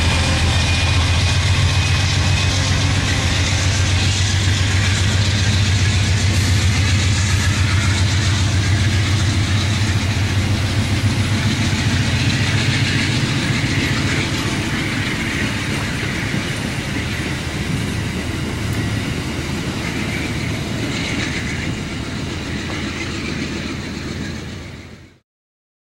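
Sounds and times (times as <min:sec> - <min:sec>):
train wheels rolling on rails: 0:00.0 - 0:25.2.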